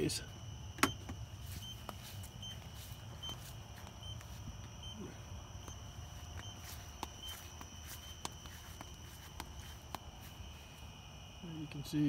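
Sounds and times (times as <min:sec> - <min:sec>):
high-pitched whine: 0:00.0 - 0:12.0
soft footsteps: 0:00.6 - 0:11.0.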